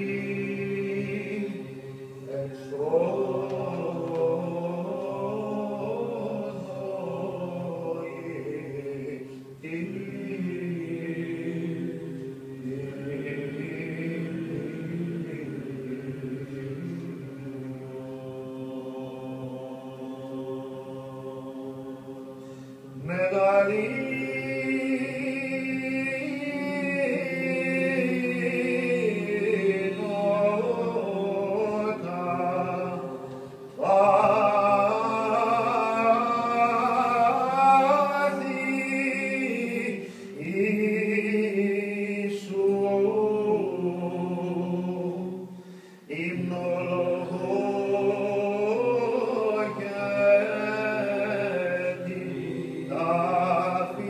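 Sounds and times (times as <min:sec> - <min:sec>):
group chanting in unison: 0:00.0 - 0:54.0.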